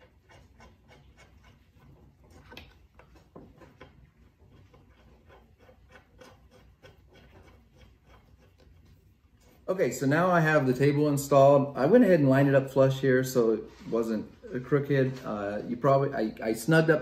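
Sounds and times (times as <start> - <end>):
soft rubbing: 0.0 - 11.6, 12.7 - 17.0.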